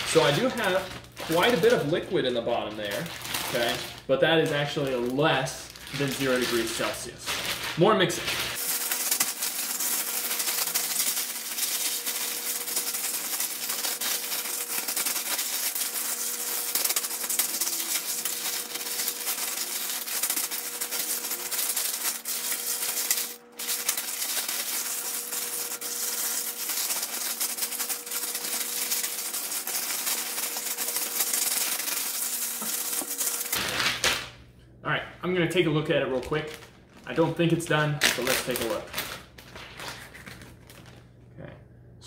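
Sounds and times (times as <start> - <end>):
ice rattling in plastic bag: 0.0 - 34.0, 38.0 - 41.0.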